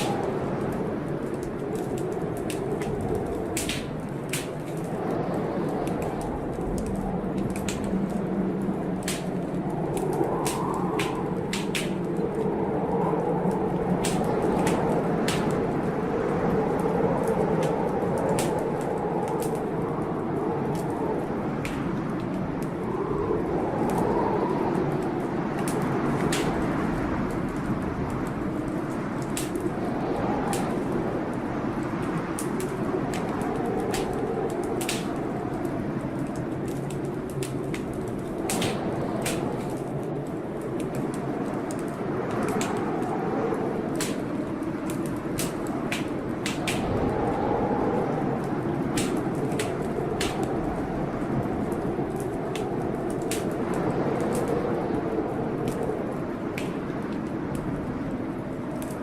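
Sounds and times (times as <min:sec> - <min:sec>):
blizzard wind blowing: 0:00.0 - 0:59.0
wood fire crackling and popping: 0:00.0 - 0:59.0.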